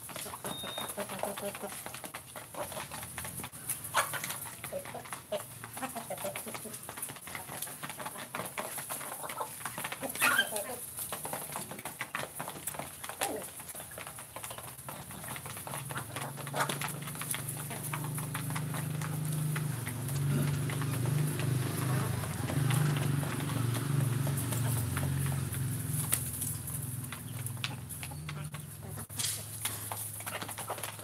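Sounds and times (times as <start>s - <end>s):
chickens calling: 0.0s - 31.0s
chickens pecking at feed bowls: 0.0s - 31.0s.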